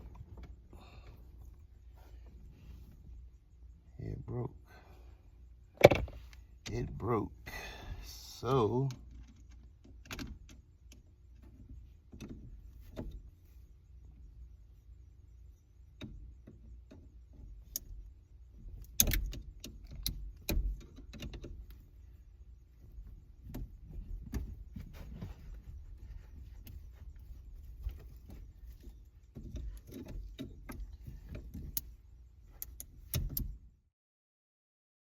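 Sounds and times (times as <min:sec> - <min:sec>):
low steady rumble: 0:00.0 - 0:33.8.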